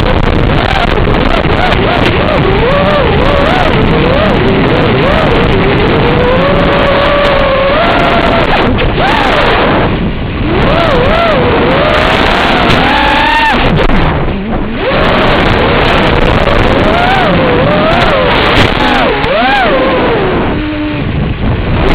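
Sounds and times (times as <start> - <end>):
quadcopter motors whining: 0.0 - 9.8, 10.4 - 13.8, 14.8 - 21.1
constant rushing noise: 0.0 - 21.9.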